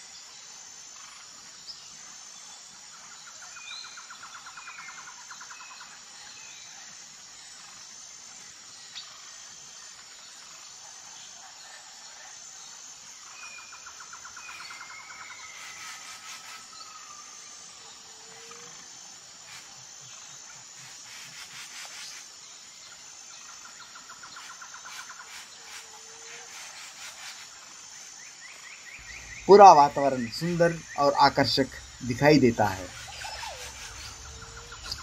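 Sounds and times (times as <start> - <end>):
bird calls and trills: 0.0 - 35.0
insects chirring: 0.0 - 35.0.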